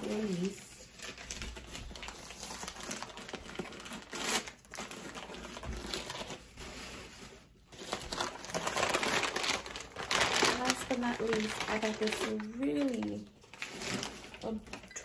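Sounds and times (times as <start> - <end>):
wrapping crinkling and rustling: 0.0 - 15.0.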